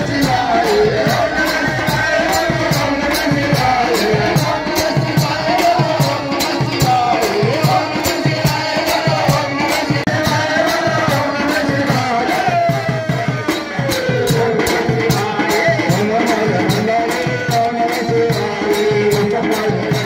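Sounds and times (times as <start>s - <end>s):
hand drum beat: 0.0s - 20.0s
jingling percussion: 0.0s - 20.0s
person singing devotional melody: 0.0s - 20.0s.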